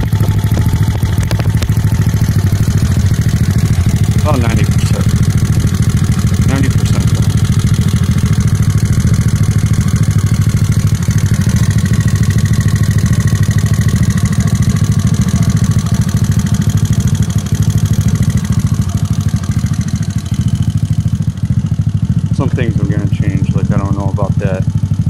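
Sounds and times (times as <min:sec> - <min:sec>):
scooter engine idling: 0:00.0 - 0:25.0.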